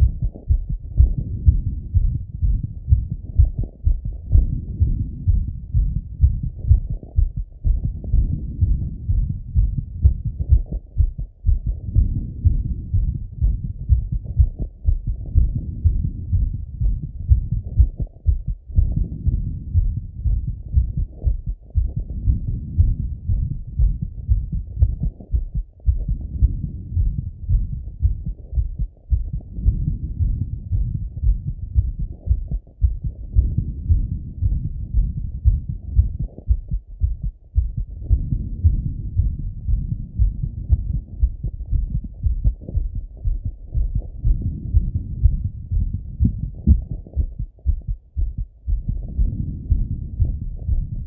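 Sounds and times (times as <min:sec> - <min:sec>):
heartbeat through stethoscope: 0:00.0 - 0:51.0.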